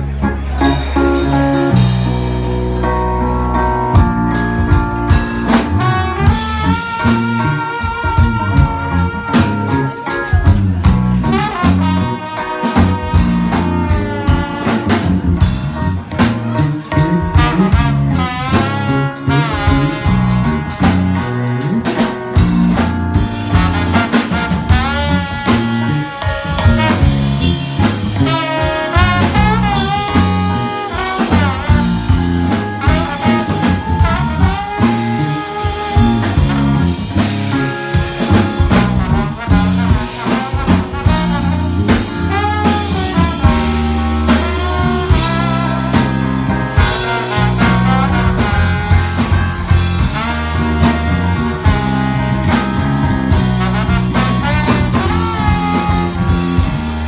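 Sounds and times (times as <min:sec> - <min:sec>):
jazz band playing: 0:00.0 - 0:57.0
trombone sliding melody: 0:00.4 - 0:57.0.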